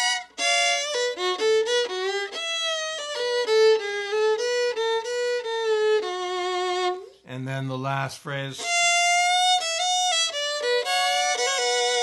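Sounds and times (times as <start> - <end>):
solo fiddle bluegrass: 0.0 - 7.3, 8.3 - 12.0.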